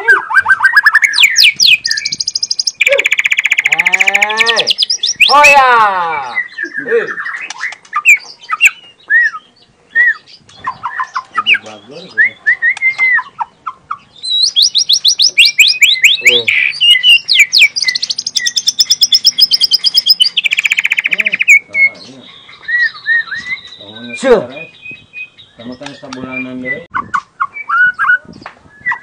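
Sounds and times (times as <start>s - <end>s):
bird whistling and trilling: 0.0s - 5.5s, 6.2s - 29.0s.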